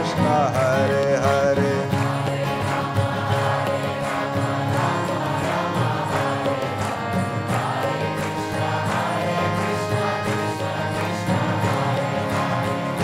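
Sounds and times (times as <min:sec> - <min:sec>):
voices chanting together: 0:00.0 - 0:13.0.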